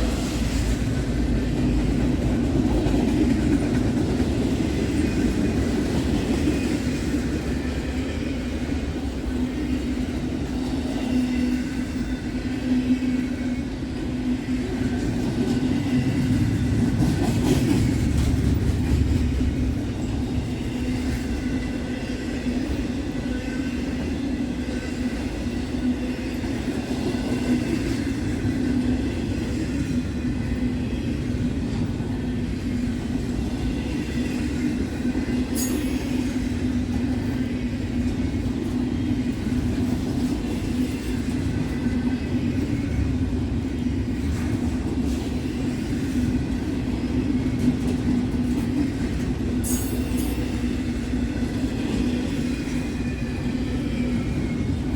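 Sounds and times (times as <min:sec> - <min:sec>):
freight train rumbling on rails: 0:00.0 - 0:54.9.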